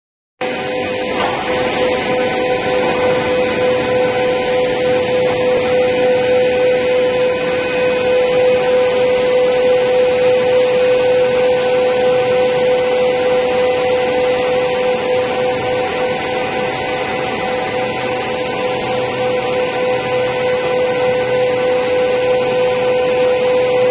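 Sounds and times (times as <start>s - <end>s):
planer moulder machine whining: 0.4s - 23.9s.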